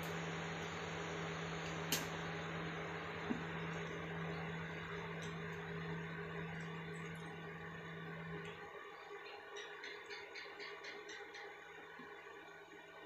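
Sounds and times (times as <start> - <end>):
steady mechanical hum with hiss: 0.0 - 13.0.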